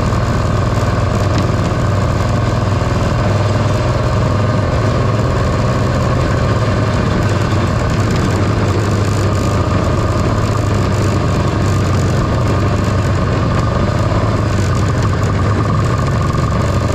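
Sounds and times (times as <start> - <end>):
snowmobile engine cruising: 0.0 - 16.9.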